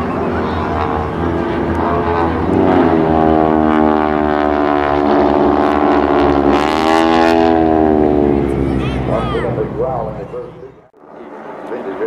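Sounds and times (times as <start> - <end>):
propeller planes droning: 0.0 - 12.0.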